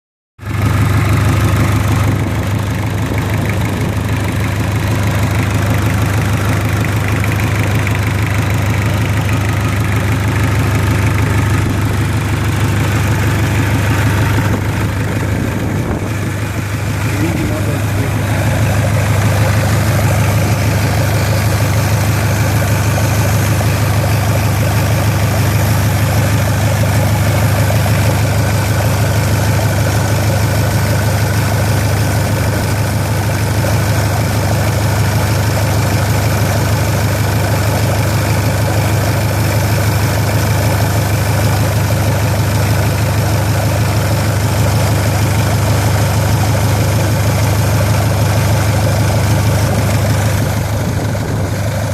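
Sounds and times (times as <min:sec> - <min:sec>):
car engine idling: 0:00.4 - 0:51.9.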